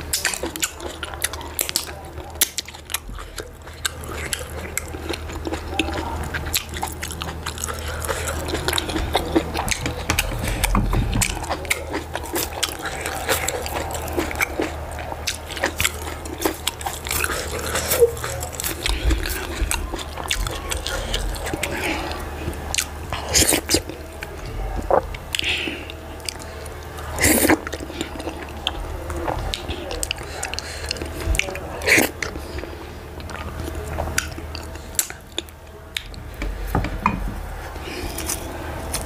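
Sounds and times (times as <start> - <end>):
soft food being chewed: 0.0 - 39.0.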